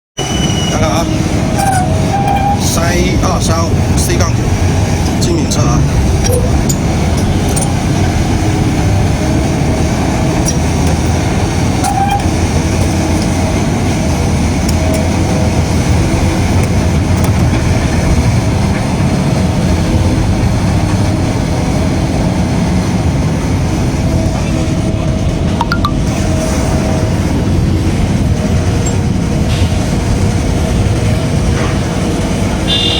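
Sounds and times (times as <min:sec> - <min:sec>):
excavator diesel engine running: 0:00.2 - 0:32.9.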